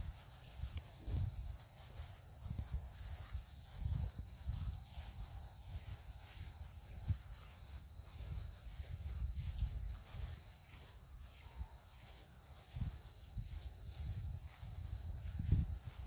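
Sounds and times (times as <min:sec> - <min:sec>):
footsteps on grass: 0:00.0 - 0:16.0
insects chirping: 0:00.0 - 0:16.0.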